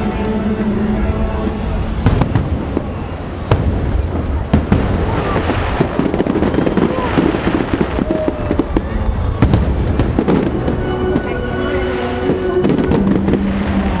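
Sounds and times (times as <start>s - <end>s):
continuous rumble: 0.0s - 14.0s
fireworks bangs and crackles: 0.0s - 14.0s.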